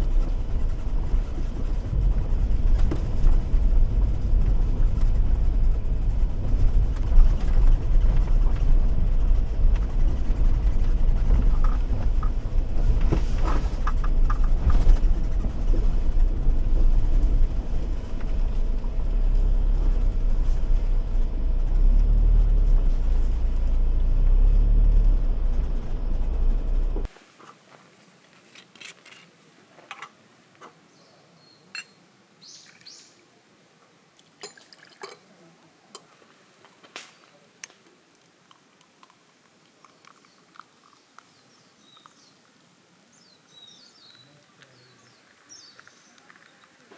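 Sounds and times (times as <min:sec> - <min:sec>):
road and engine rumble: 0:00.0 - 0:46.9.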